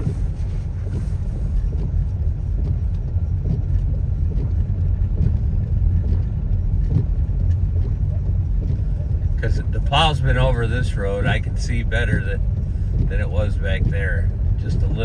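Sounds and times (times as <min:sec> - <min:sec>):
car driving on snowy road: 0:00.0 - 0:15.0.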